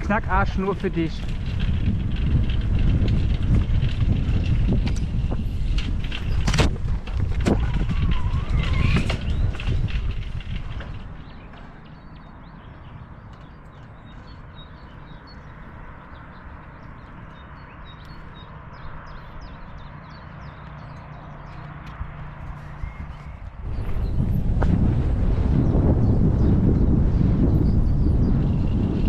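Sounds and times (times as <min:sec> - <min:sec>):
bike tyre and wind rumble: 0:00.0 - 0:29.0.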